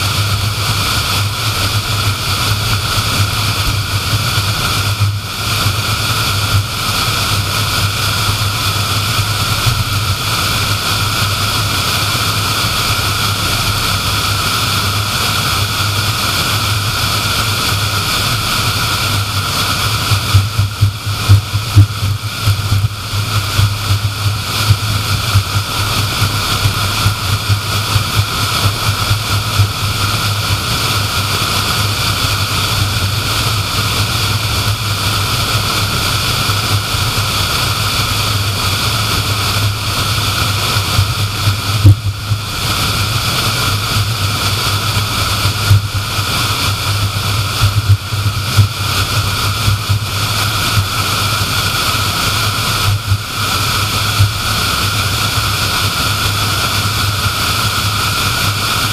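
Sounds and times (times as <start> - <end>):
low engine drone: 0.0 - 58.9.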